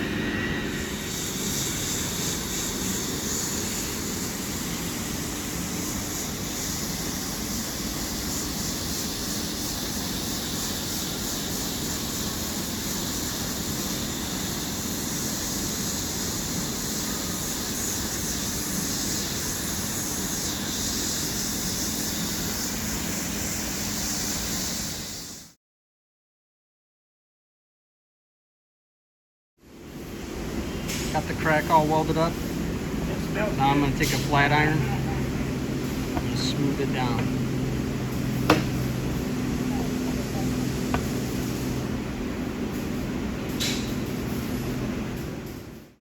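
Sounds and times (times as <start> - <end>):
hot-air welder hissing: 0.0 - 25.6, 29.9 - 45.9.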